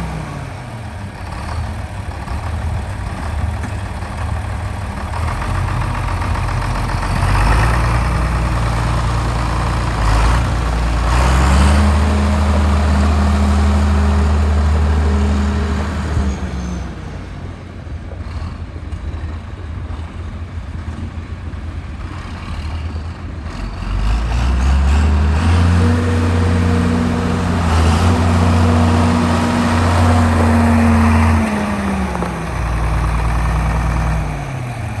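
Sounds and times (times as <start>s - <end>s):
tractor diesel engine revving: 0.0s - 17.2s, 22.1s - 35.0s.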